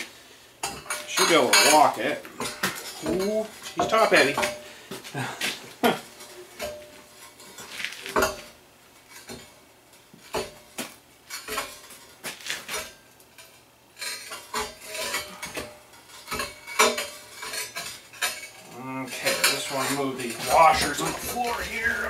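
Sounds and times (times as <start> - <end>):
metal stand clanking on concrete: 0.6 - 9.6, 10.2 - 22.0.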